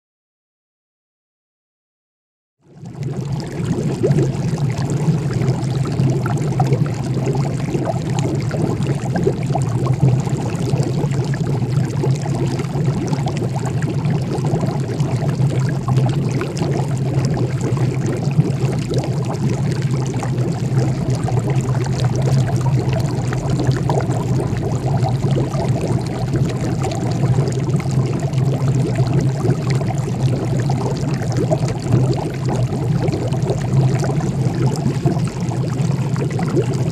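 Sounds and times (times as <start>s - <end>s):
liquid bubbling in glass flask: 2.6s - 36.9s
steady low hum: 3.4s - 36.9s.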